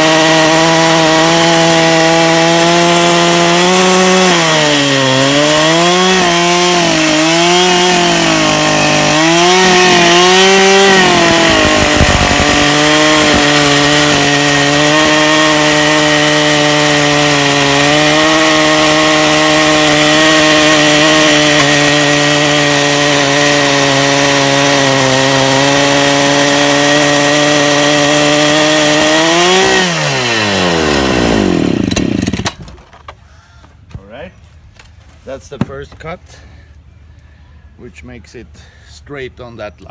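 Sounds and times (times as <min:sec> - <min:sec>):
chainsaw ripping a log: 0:00.0 - 0:33.0.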